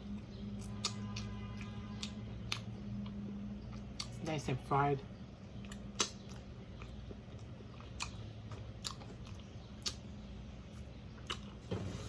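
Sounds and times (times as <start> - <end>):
person chewing: 0.0 - 4.3, 5.5 - 11.6.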